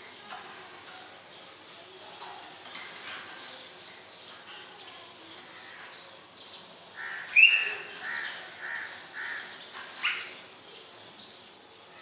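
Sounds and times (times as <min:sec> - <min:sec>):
caged bird calling: 0:00.0 - 0:12.0.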